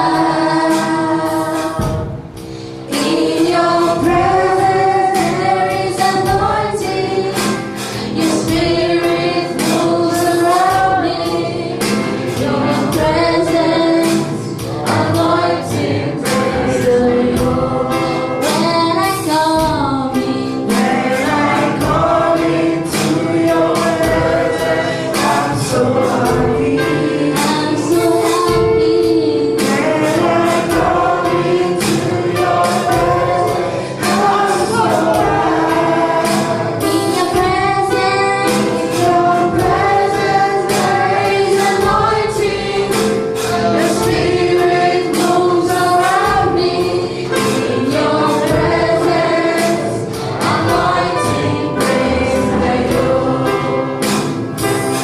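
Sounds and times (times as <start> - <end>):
group singing gospel: 0.0 - 55.0
instrumental backing with beat: 0.0 - 55.0.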